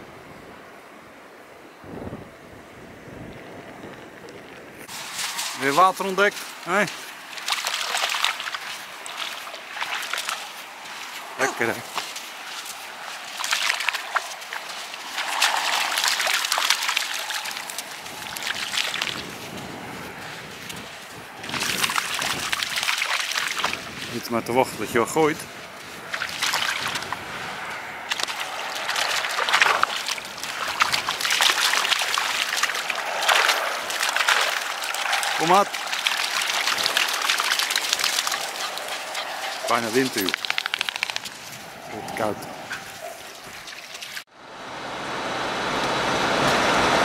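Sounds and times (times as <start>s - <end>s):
dog splashing through water: 4.9s - 24.2s, 25.9s - 44.3s.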